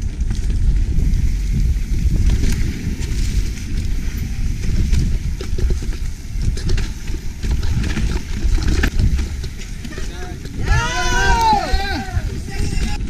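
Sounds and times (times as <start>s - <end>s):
bike chain and frame rattling: 0.0s - 13.0s
bike tyres rumbling on dirt: 0.0s - 13.0s
wind: 0.0s - 13.0s.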